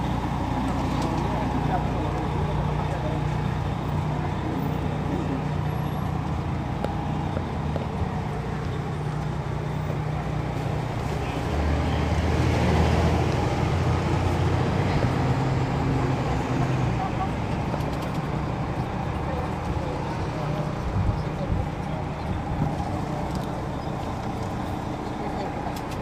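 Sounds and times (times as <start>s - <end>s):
bus diesel engine running: 0.0s - 26.0s.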